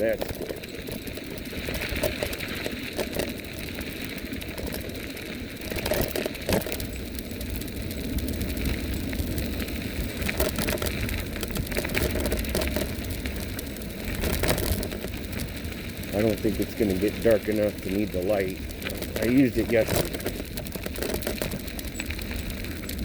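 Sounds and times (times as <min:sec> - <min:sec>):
bike rattles and clicks: 0:00.0 - 0:23.0
tyres rumbling: 0:00.0 - 0:23.0
wind buffeting microphone: 0:00.0 - 0:23.0.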